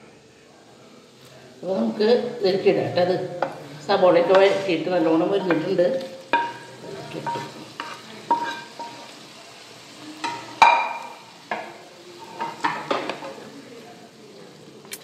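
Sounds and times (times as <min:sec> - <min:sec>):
oil sizzling: 0:01.0 - 0:15.0.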